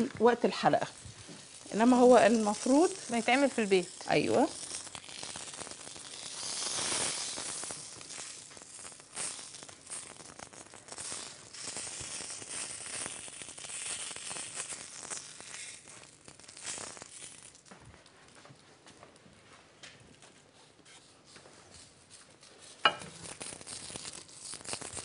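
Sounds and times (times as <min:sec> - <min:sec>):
bread frying in oil: 0:00.0 - 0:17.8, 0:22.6 - 0:25.0.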